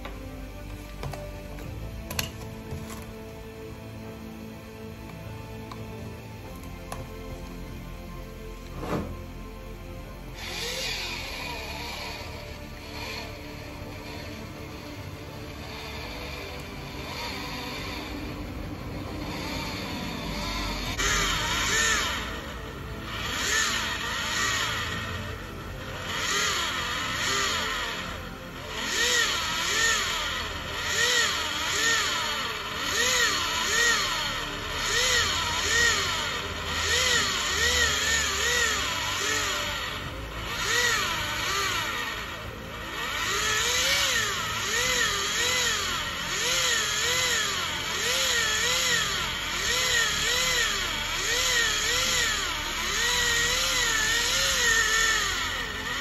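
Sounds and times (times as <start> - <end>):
cheese grater whirring: 0.0 - 56.0.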